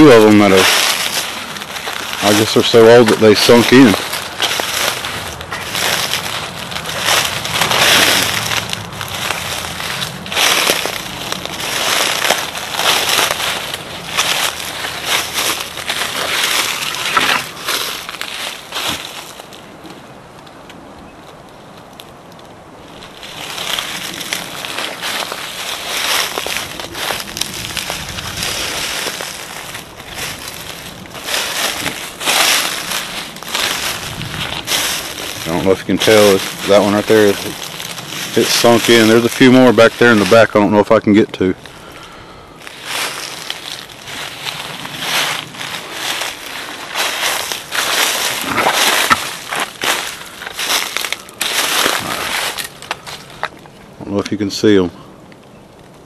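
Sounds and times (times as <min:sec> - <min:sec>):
footsteps crunching through dry leaves: 0:00.0 - 0:19.9, 0:22.8 - 0:54.9
twigs snapping: 0:00.0 - 0:40.4, 0:41.6 - 0:54.4.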